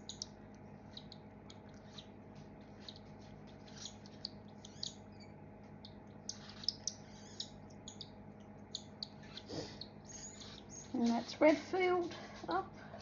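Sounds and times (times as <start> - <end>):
baby birds begging chirps: 0.0 - 11.5.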